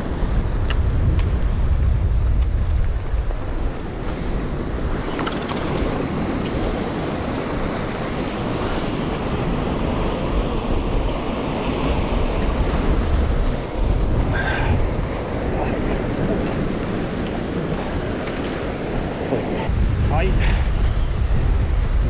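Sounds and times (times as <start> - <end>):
surf washing against rocks: 0.0 - 22.0
wind buffeting microphone: 0.0 - 22.0.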